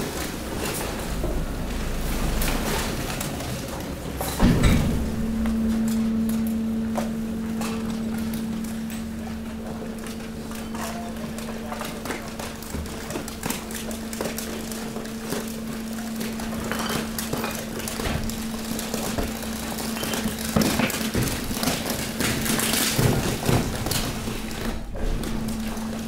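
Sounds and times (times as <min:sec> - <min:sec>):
machine hum: 0:00.0 - 0:26.0
waste crackling and crunching: 0:05.1 - 0:26.0.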